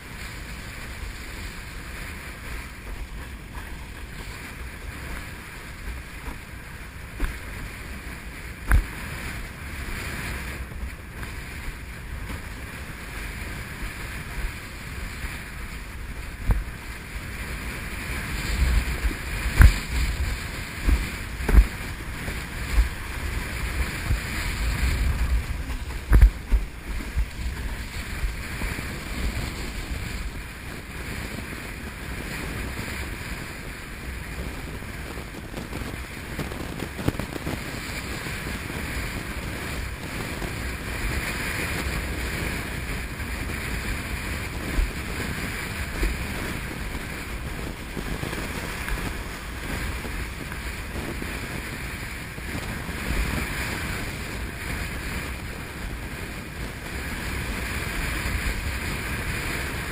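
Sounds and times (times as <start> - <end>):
board slapping over waves: 0.0 - 59.9
wind rushing over microphone: 0.0 - 59.9.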